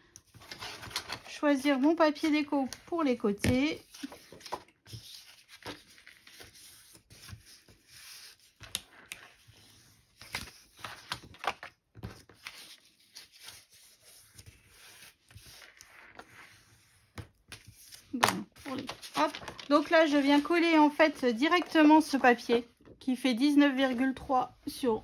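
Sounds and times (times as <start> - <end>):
paper sheets rustling: 0.2 - 22.3.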